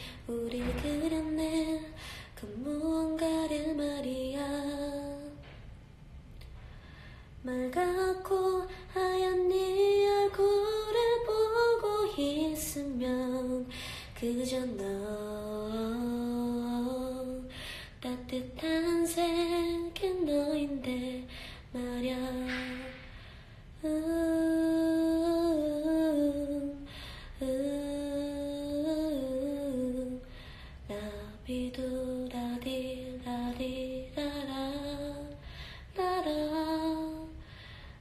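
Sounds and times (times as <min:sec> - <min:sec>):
woman singing gentle ballad: 0:00.0 - 0:05.6, 0:07.4 - 0:23.2, 0:23.8 - 0:37.8.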